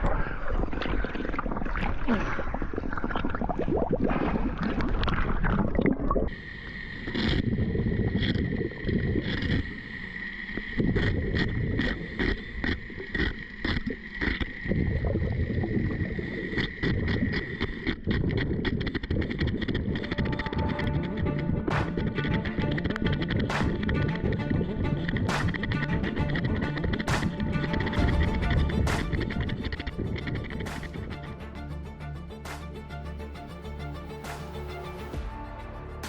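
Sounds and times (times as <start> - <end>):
underwater exhaust bubbles: 0.0 - 31.1.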